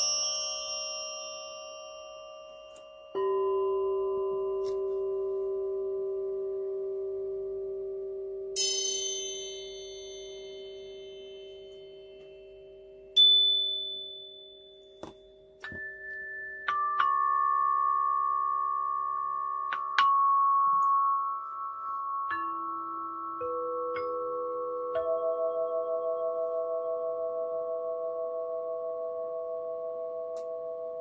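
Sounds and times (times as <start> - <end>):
struck bell-like tones: 0.0 - 31.0
steady low tone: 1.2 - 8.6, 9.8 - 31.0.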